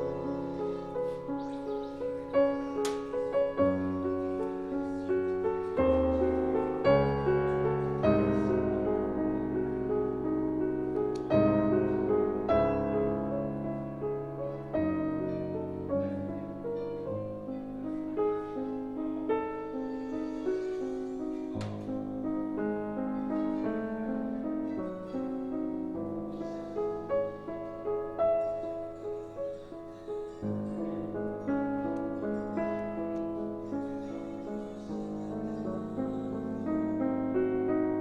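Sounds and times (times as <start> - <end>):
slow gentle piano music: 0.0 - 38.0.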